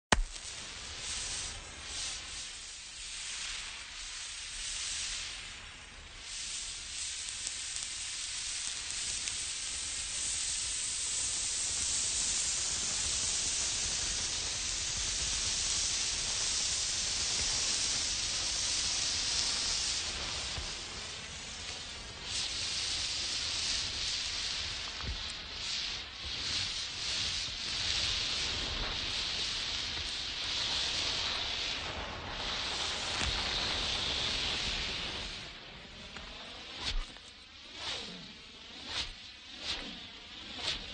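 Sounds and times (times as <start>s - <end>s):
flare burning with a hiss: 0.1s - 40.9s.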